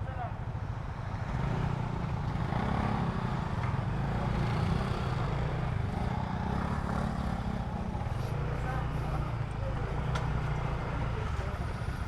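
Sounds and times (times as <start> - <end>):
motorcycle engine running: 1.4 - 12.0.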